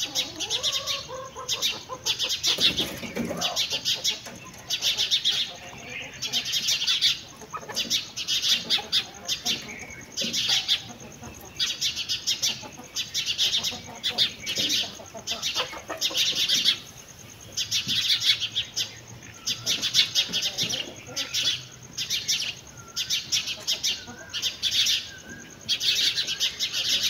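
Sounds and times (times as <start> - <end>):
songbirds chirping in rapid trills: 0.0 - 27.0.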